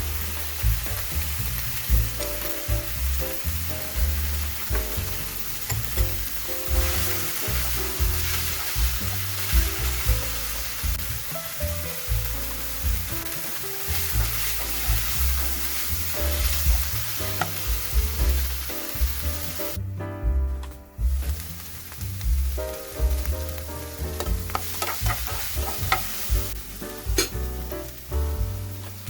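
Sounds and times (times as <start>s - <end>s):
rice sizzling in a hot pan: 0.0s - 19.8s, 21.0s - 29.0s.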